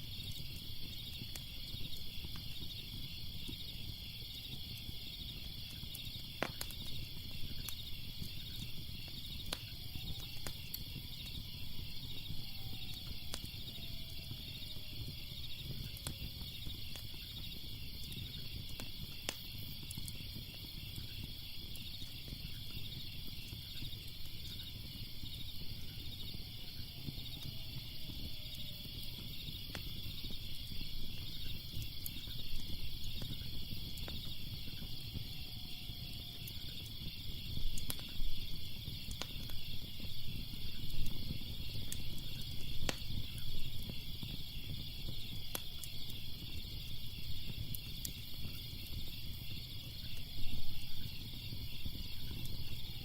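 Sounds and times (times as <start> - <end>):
crickets chirping: 0.0 - 53.0
fire crackling and popping: 0.0 - 53.0.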